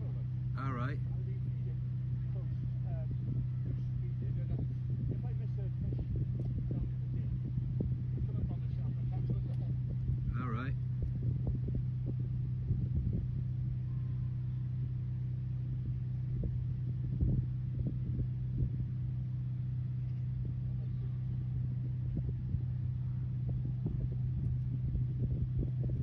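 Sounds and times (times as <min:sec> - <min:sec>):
low hum with rumble: 0:00.0 - 0:26.0.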